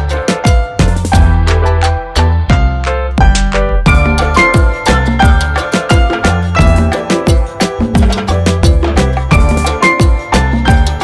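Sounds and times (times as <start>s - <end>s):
upbeat music with percussion and bass: 0.0s - 11.0s.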